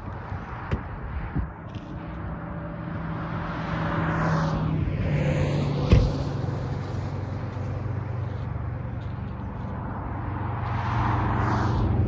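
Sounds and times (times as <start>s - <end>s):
low engine drone: 0.0s - 12.0s
vehicle passing: 0.0s - 12.0s.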